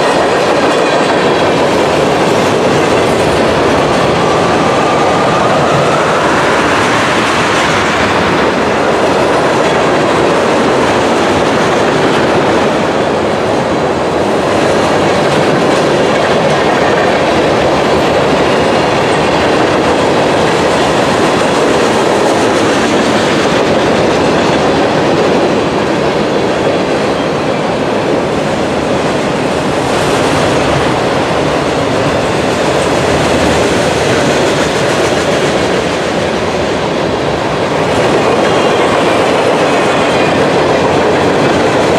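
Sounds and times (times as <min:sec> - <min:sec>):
train wheels rushing on rail: 0:00.0 - 0:41.9
wheels clickety-clack on rail joints: 0:00.0 - 0:41.9.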